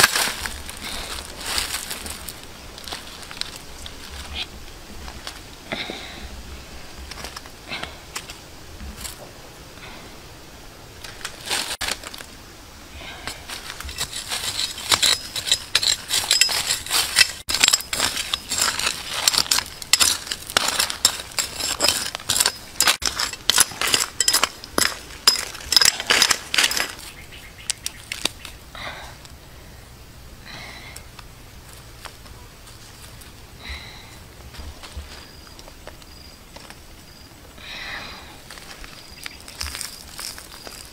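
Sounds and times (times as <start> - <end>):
digging gravelly soil by hand: 0.0 - 10.0, 11.0 - 12.4, 13.0 - 29.4, 30.5 - 40.9.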